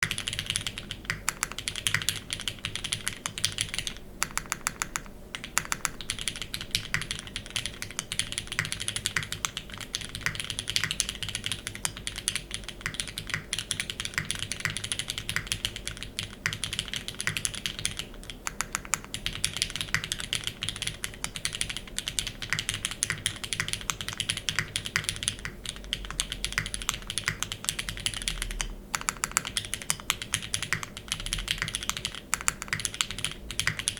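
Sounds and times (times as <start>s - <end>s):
fast keyboard typing: 0.0s - 33.9s.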